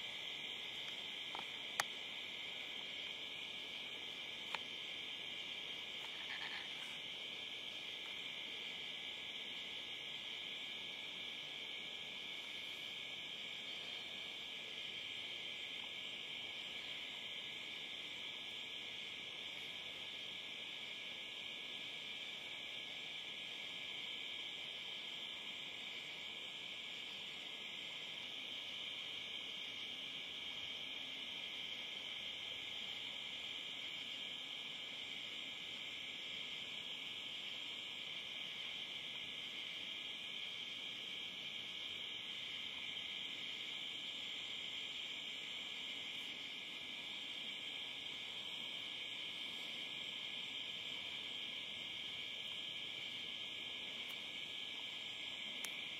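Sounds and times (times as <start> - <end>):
insects chorus droning: 0.0 - 55.9.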